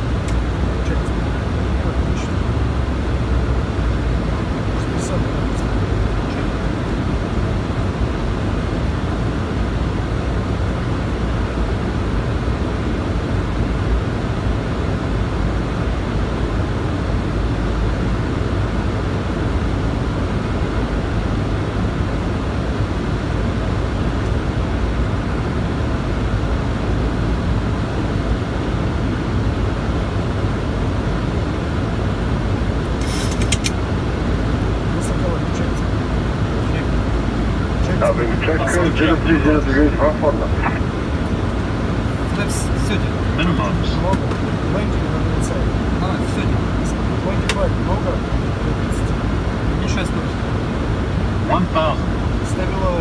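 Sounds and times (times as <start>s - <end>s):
airliner cockpit engine and airflow: 0.0s - 53.0s.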